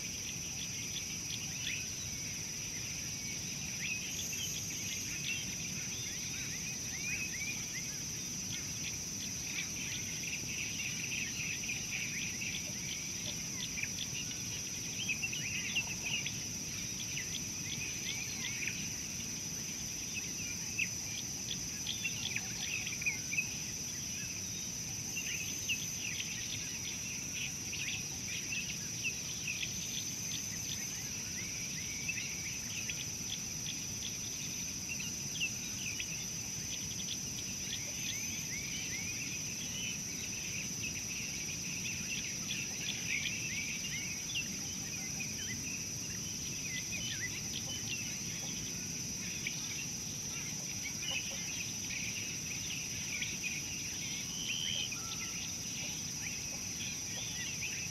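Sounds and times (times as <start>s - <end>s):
insect drone: 0.0s - 57.9s.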